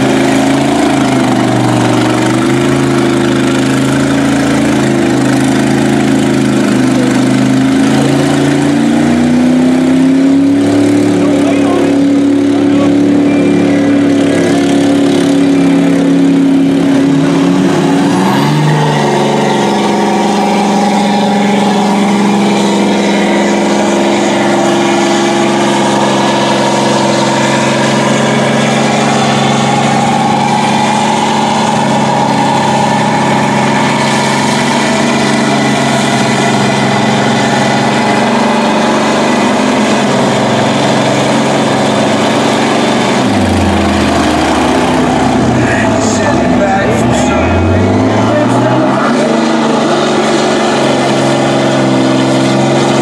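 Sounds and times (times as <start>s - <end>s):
truck engine at high revs: 0.0s - 53.0s
tyres churning through mud: 0.0s - 53.0s.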